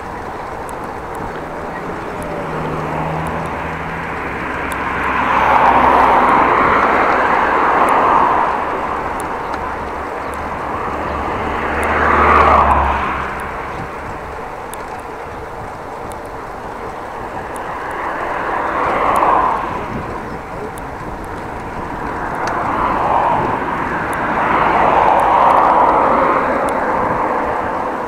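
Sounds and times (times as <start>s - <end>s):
low rumble of riding: 0.0s - 28.0s
vehicles passing: 0.0s - 28.0s.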